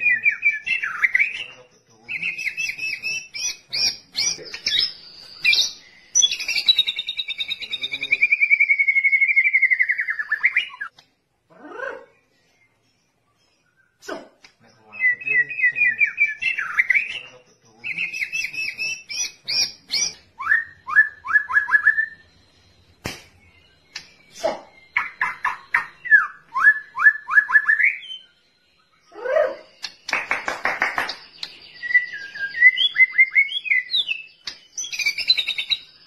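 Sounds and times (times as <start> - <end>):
bird singing whistles and trills: 0.0 - 11.0, 14.7 - 36.0.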